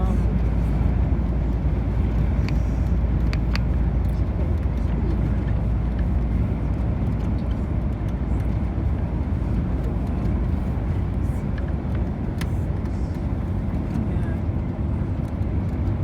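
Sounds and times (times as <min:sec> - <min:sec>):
coach engine and road rumble: 0:00.0 - 0:16.0.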